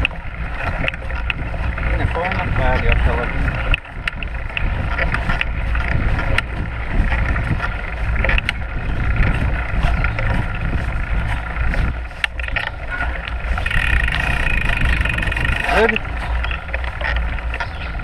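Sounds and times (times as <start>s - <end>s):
bike clicks and rattles: 0.0s - 18.0s
bike tyre rolling on dirt: 0.0s - 18.0s
wind buffeting microphone: 0.0s - 18.0s.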